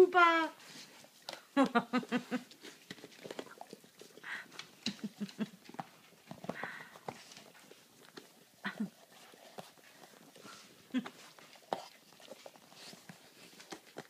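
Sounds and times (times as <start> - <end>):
dog licking wetly: 0.8 - 14.0.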